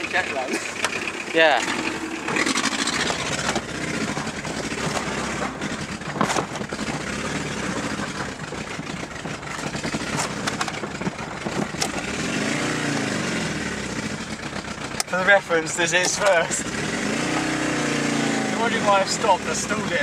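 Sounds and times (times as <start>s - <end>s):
diesel engine from inside car: 0.0s - 20.0s.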